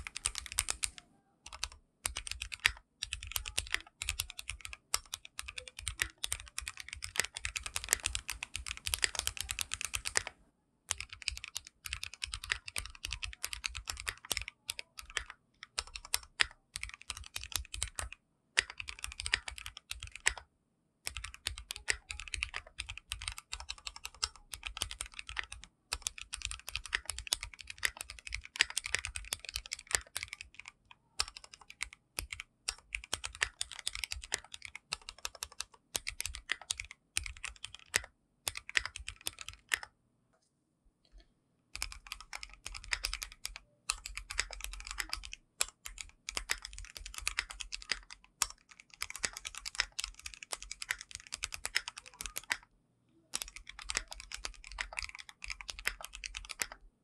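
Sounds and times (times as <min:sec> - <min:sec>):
mechanical keyboard typing: 0:00.0 - 0:10.3, 0:10.9 - 0:39.9, 0:41.7 - 0:52.7, 0:53.3 - 0:56.8.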